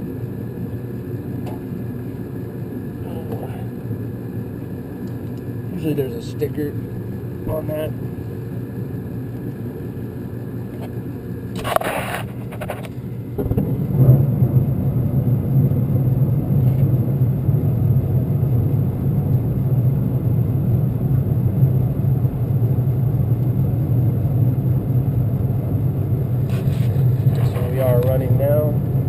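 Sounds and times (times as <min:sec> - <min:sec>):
furnace burners rumbling: 0:00.0 - 0:29.0
gas furnace lighting: 0:00.0 - 0:29.0.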